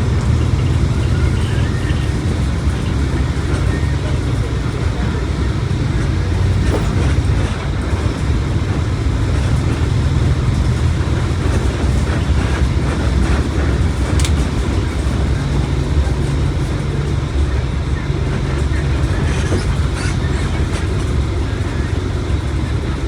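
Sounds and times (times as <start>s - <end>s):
bus diesel engine rumble: 0.0s - 23.0s
road noise: 0.0s - 23.0s.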